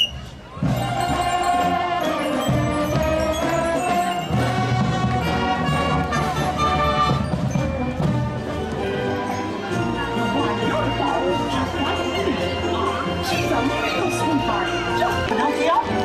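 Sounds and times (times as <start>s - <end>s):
flutes playing melody: 0.0s - 15.2s
marching band playing: 0.0s - 16.0s.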